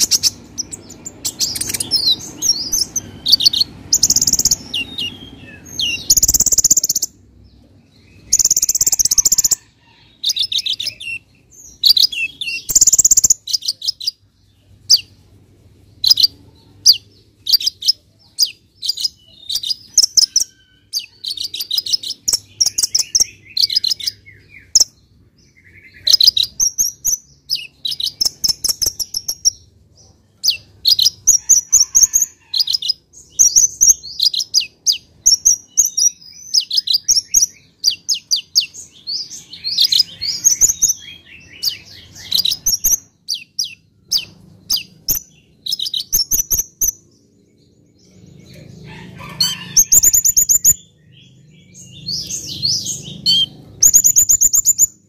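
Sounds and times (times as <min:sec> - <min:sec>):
bird chirping and trilling: 0:00.0 - 0:15.2, 0:15.9 - 0:55.0.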